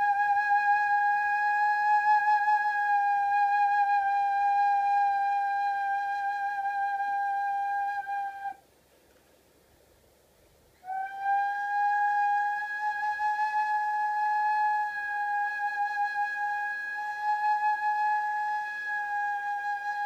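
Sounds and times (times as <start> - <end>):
stone flute whistling note: 0.0 - 8.6, 10.8 - 20.0.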